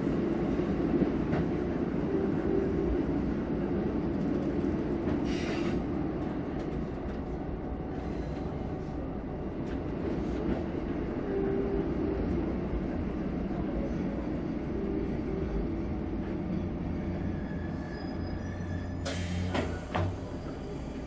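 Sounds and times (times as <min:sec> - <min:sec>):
railcar engine and wheels rumbling: 0:00.0 - 0:21.0.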